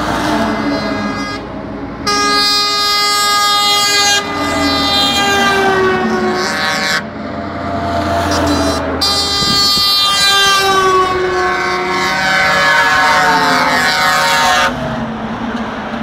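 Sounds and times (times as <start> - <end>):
truck air horns: 0.0 - 15.0
diesel truck engines: 0.0 - 16.0
truck tyres on road: 0.0 - 16.0.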